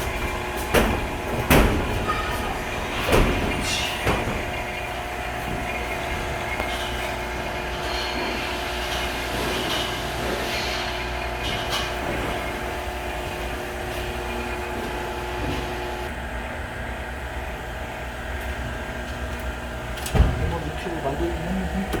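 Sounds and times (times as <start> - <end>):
machine hum with low rumble: 0.0 - 22.0.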